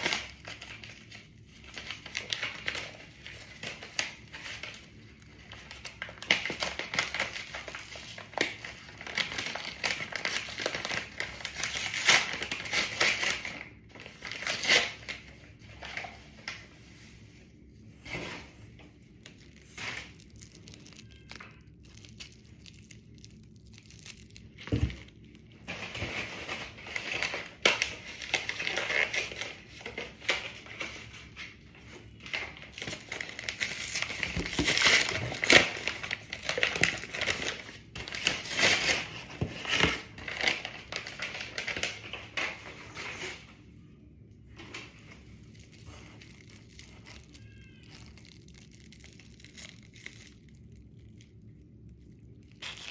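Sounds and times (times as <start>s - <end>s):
packaging crinkling: 0.0s - 43.6s, 44.6s - 52.9s.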